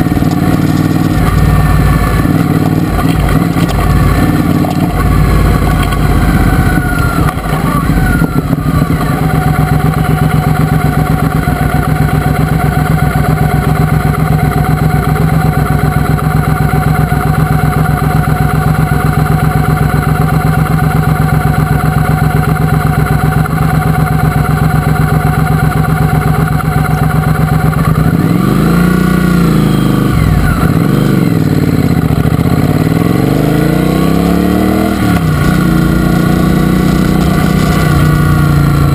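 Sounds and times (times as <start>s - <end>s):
motorcycle engine running and revving: 0.0s - 38.9s.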